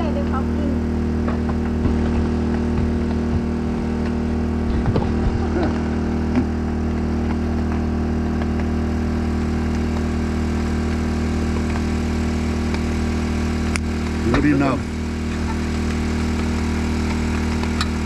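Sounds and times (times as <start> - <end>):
generator engine humming: 0.0 - 18.0.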